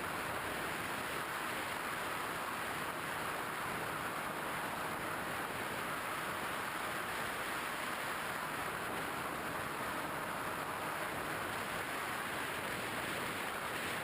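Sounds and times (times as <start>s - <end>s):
model plane propeller and air rushing: 0.0s - 14.0s.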